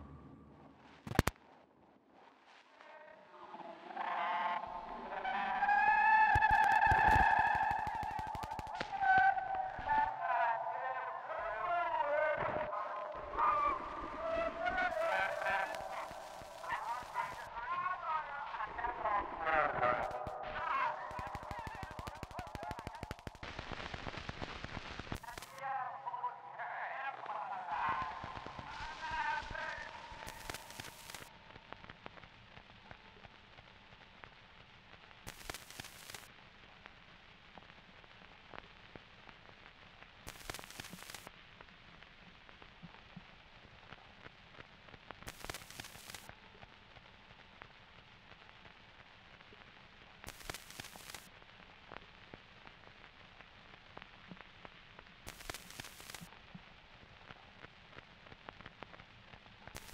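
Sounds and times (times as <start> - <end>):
crackling static: 0.0 - 59.9.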